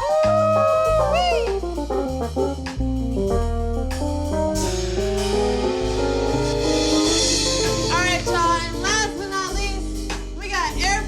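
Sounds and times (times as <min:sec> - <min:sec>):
bass and drums: 0:00.0 - 0:11.0
keyboard solo: 0:00.0 - 0:11.0.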